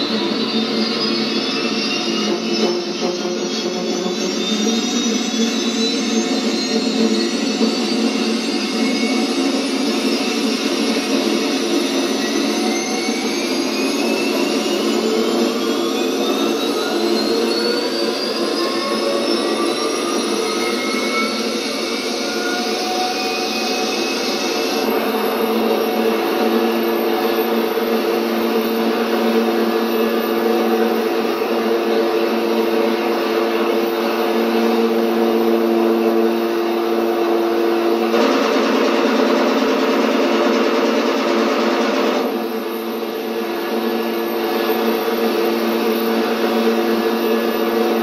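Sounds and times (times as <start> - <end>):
turbine jet whine: 0.0 - 48.0.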